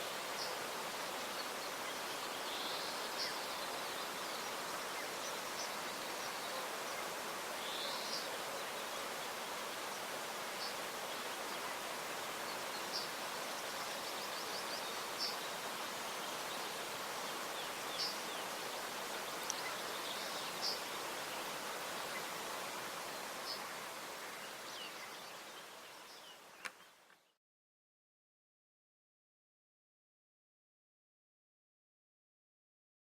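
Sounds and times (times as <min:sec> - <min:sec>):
river rushing: 0:00.0 - 0:26.5
small birds chirping: 0:00.0 - 0:27.4.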